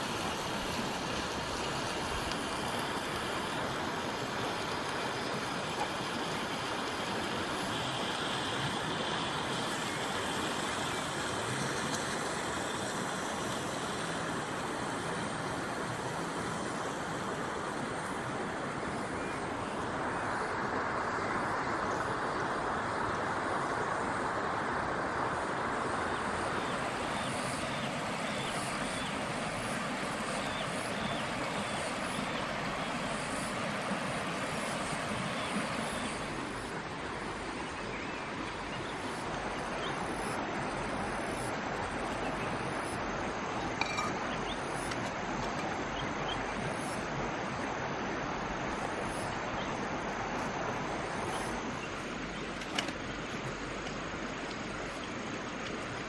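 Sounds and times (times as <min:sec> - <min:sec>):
river flowing over rocks: 0:00.0 - 0:56.0.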